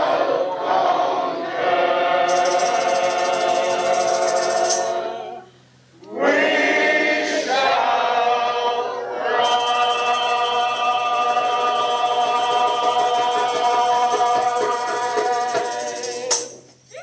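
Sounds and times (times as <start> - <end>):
choir singing long notes: 0.0 - 16.5.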